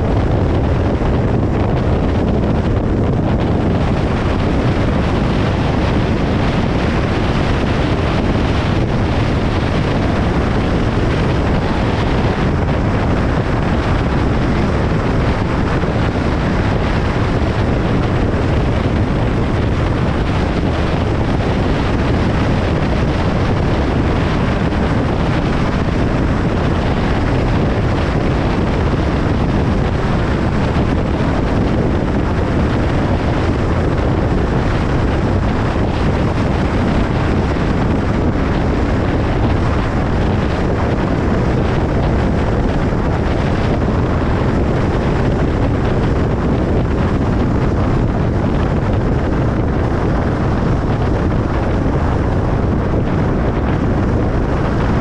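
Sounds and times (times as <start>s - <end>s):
car road noise: 0.0s - 55.0s.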